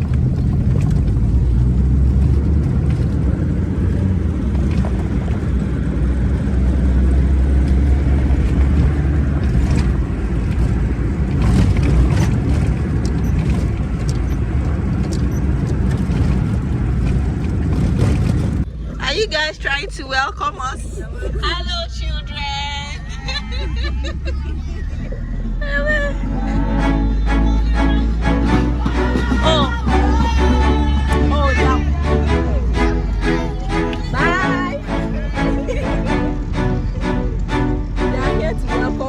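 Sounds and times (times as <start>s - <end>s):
moving vehicle rumble: 0.0s - 39.0s.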